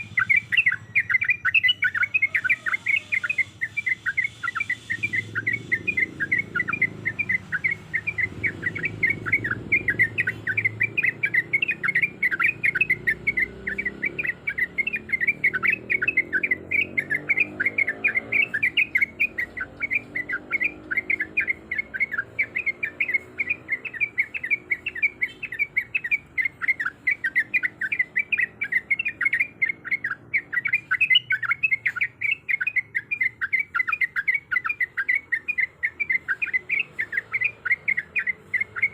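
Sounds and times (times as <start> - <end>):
bird singing rapid chirps: 0.0 - 38.9.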